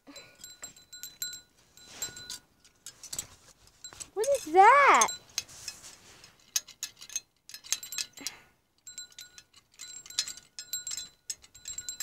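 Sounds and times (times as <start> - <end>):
light clicks and rattles: 2.0 - 12.0.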